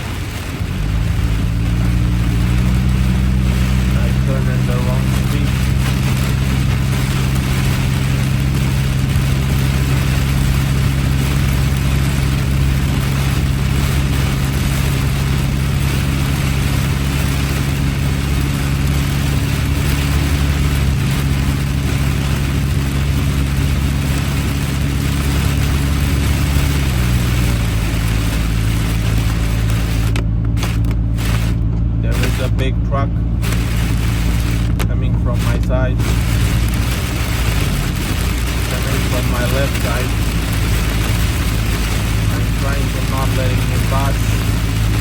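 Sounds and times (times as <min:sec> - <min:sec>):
low engine hum: 0:00.0 - 0:45.0
rain and tyres hissing on wet road: 0:00.0 - 0:45.0.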